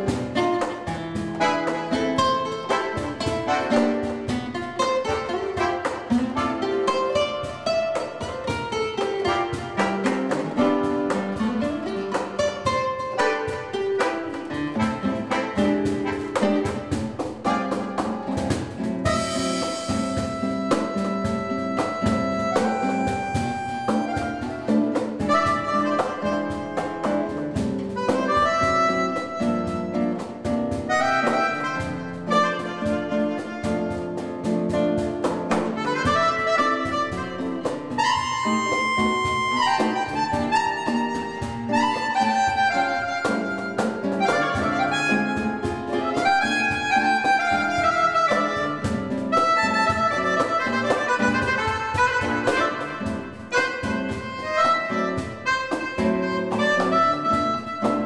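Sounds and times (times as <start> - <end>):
reedy wind instrument melody: 0.0 - 58.0
small jazz ensemble playing: 0.0 - 58.0.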